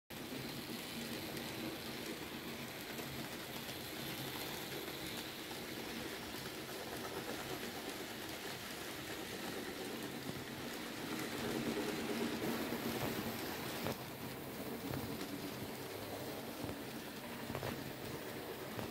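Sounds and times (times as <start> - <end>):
model train motors whirring: 0.2 - 18.9.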